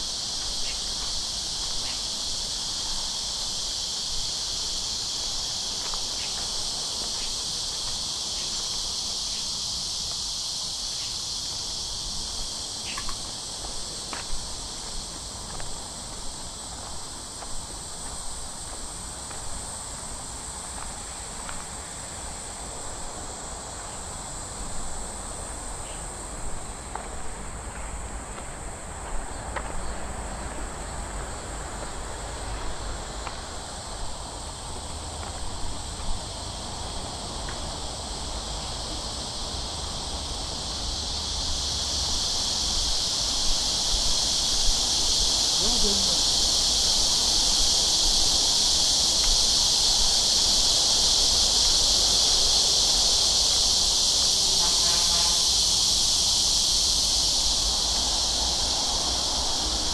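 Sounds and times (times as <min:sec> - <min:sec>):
faint footsteps on garden path: 0:00.0 - 0:54.4
cicadas buzzing: 0:00.0 - 0:59.9.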